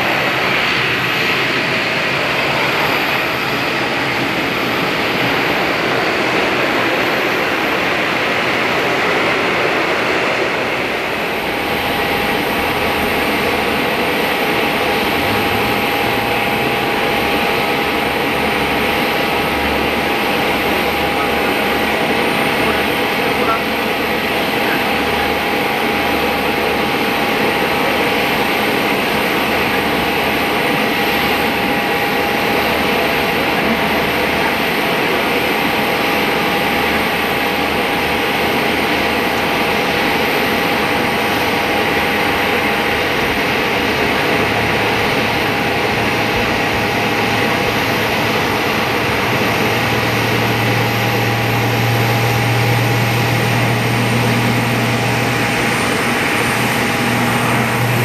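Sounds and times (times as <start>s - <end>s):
constant hum tone: 0.0s - 58.0s
low propeller drone: 0.0s - 58.0s
turboprop engine at high power: 0.0s - 58.0s.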